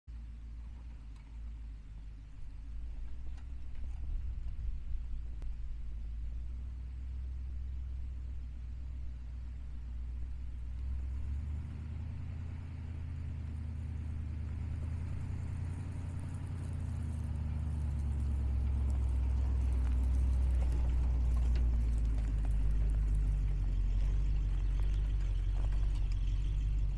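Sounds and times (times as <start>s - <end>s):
truck engine running: 0.1s - 26.9s.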